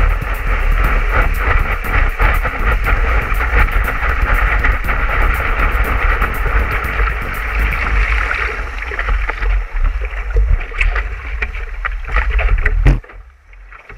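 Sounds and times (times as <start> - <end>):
water rushing: 0.0 - 13.9
water slapping board: 0.0 - 13.9
wind rumbling on microphone: 0.0 - 13.9.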